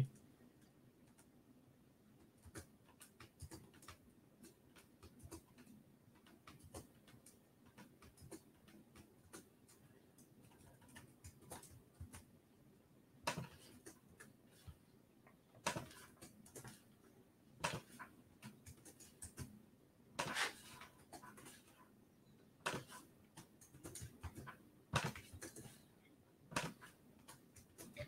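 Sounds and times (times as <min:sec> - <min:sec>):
faint keyboard typing: 0:00.0 - 0:01.5, 0:02.1 - 0:12.4, 0:13.2 - 0:28.0.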